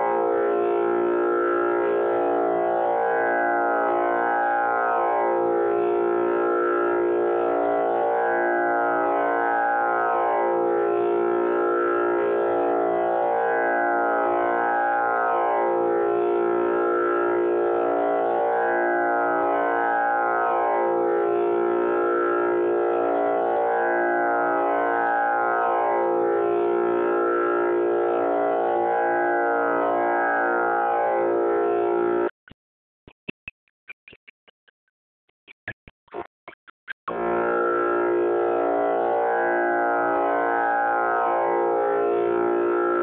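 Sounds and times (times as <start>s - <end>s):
tanpura drone: 0.0s - 32.3s, 37.1s - 43.0s.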